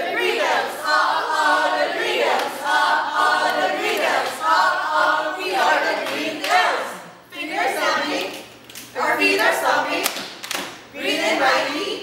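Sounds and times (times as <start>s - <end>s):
group singing and chanting cheer: 0.0s - 10.2s.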